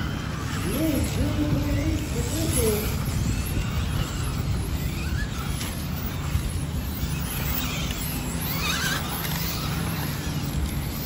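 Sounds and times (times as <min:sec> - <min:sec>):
electric toy cars whining: 0:00.0 - 0:11.0.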